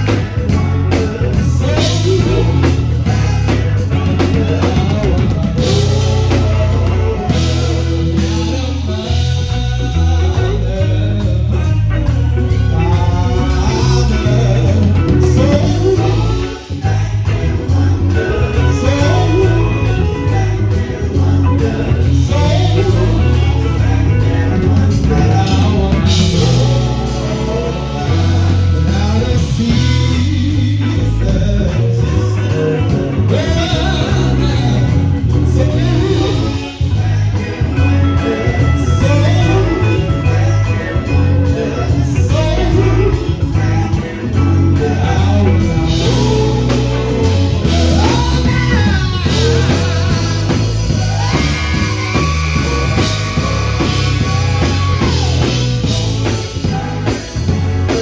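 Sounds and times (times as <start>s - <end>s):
live band playing: 0.0s - 58.0s
male vocal group singing: 0.0s - 58.0s.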